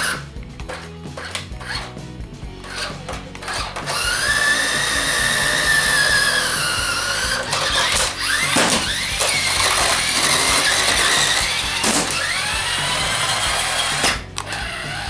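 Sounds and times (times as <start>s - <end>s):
toy car electric motors whining: 0.0s - 1.9s, 2.6s - 15.0s.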